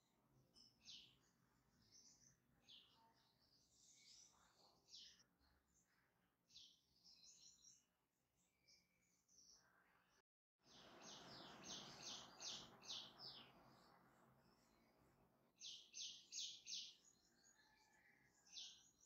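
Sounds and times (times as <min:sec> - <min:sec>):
bird chirping: 0:00.5 - 0:09.8, 0:10.7 - 0:19.0.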